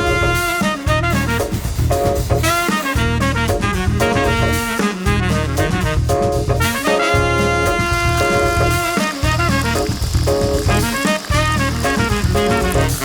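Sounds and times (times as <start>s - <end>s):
pulsing bass beat: 0.0s - 13.0s
swing jazz music with brass: 0.0s - 13.0s.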